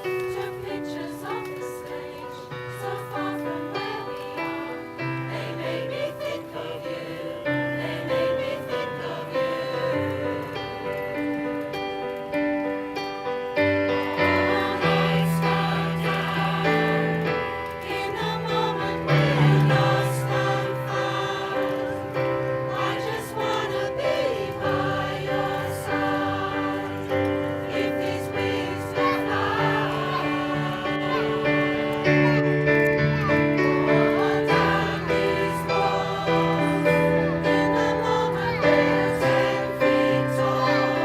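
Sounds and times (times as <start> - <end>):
mixed choir singing: 0.0 - 11.7, 13.2 - 41.0.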